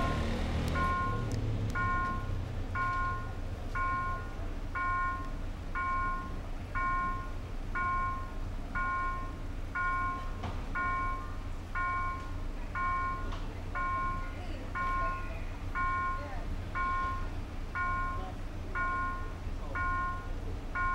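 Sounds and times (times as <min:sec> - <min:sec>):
level crossing warning bell: 0:00.0 - 0:20.9.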